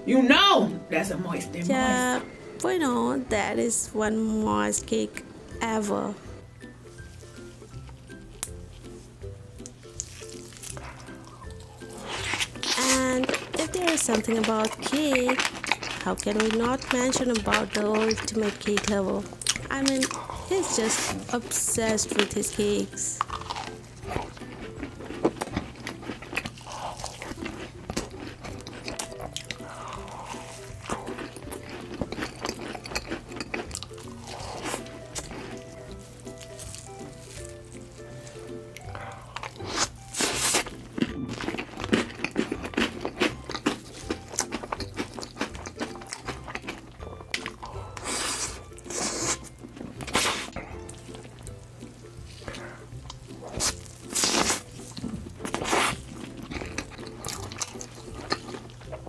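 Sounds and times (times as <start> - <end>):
faint background music: 0.0 - 59.0
person biting and chewing cake: 6.3 - 59.0.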